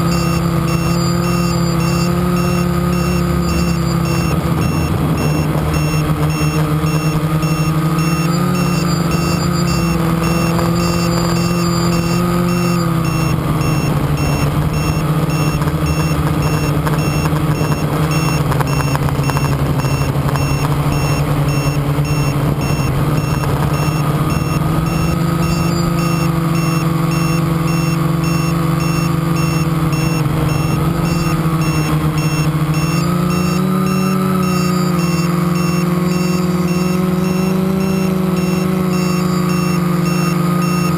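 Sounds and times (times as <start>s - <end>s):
quadcopter motors whining: 0.0s - 40.9s.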